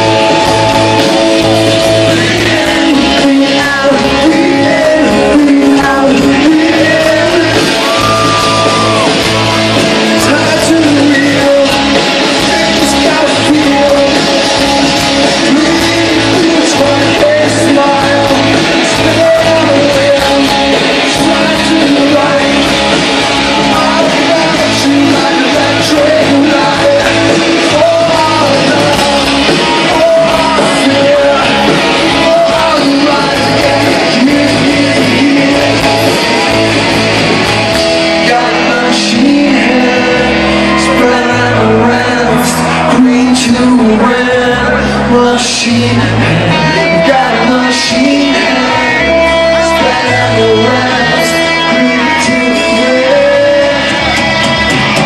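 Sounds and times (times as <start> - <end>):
crowd noise: 0.0 - 55.0
live rock band with singer: 0.0 - 55.0.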